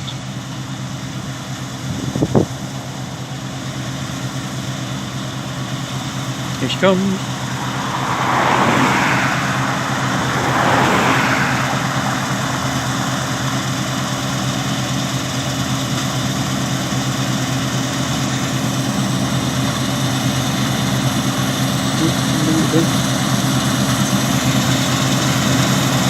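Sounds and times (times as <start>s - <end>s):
combine harvester engine hum: 0.0s - 26.0s.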